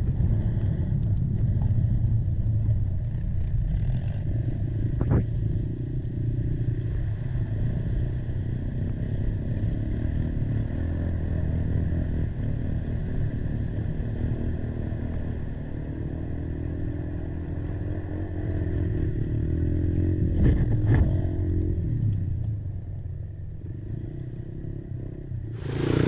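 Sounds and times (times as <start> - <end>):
quad engine running: 0.0 - 26.0.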